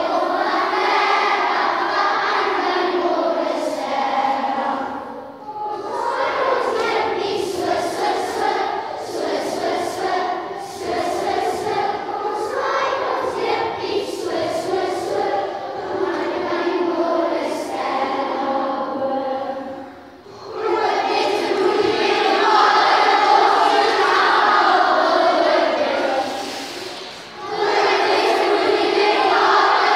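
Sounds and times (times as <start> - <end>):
children singing in unison: 0.0 - 29.9.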